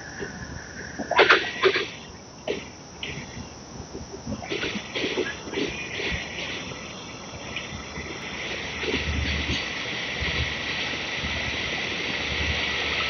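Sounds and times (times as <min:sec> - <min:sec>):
steady high hiss: 0:00.0 - 0:13.0
train rumbling low: 0:00.0 - 0:13.0.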